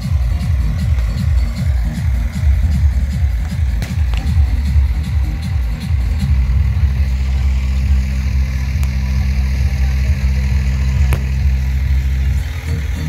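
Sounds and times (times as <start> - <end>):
bass-heavy music over loudspeakers: 0.0 - 13.0.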